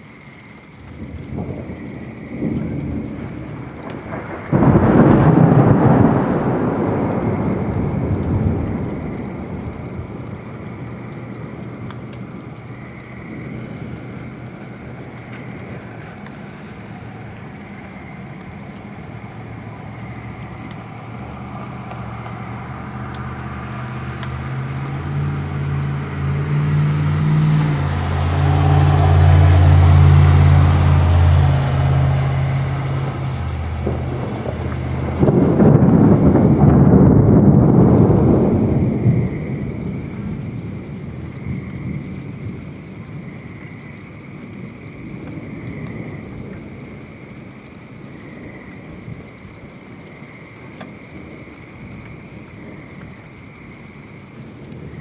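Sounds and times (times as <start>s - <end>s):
steady rain: 0.0s - 55.0s
thunder crack and rumble: 0.7s - 55.0s.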